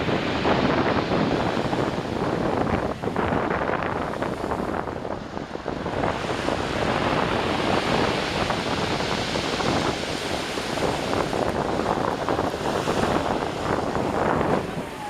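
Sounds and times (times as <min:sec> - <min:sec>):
storm waves breaking on shore: 0:00.0 - 0:15.0
wind buffeting microphone: 0:00.0 - 0:15.0.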